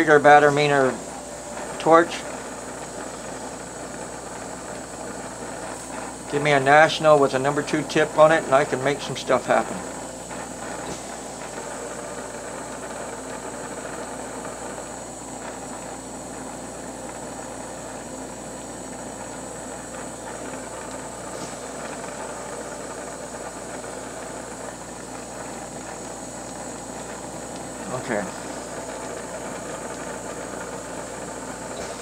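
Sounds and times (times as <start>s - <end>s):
bench torch hissing: 0.0s - 32.0s.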